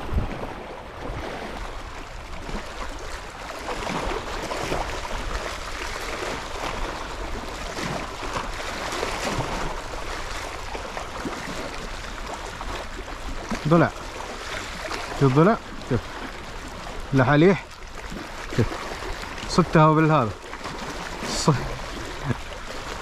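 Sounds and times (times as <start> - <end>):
seawater lapping at shore: 0.0 - 23.0.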